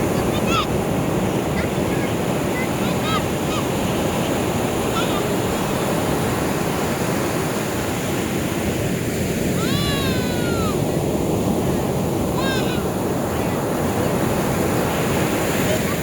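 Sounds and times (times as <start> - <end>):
ocean surf on a beach: 0.0 - 16.0.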